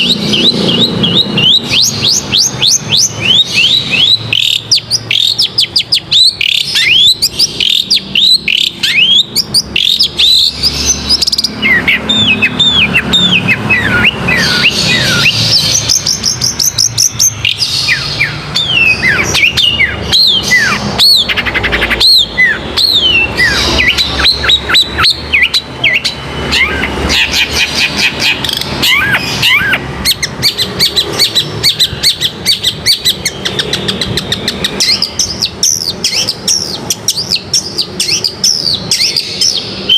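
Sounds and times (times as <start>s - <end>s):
bird whistles and trills: 0.0s - 39.9s.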